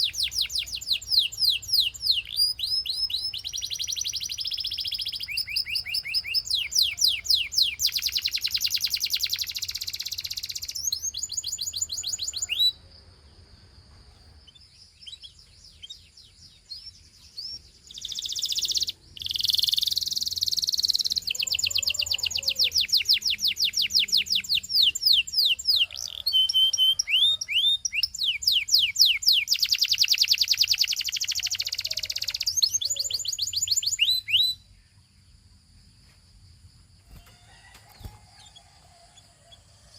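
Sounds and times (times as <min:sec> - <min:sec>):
canary singing trills: 0:00.0 - 0:12.8, 0:14.2 - 0:35.5.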